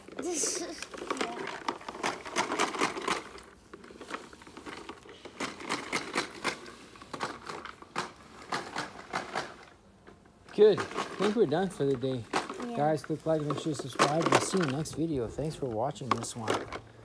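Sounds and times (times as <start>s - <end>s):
toy lawn mower clacking: 0.0s - 9.7s, 10.6s - 16.8s.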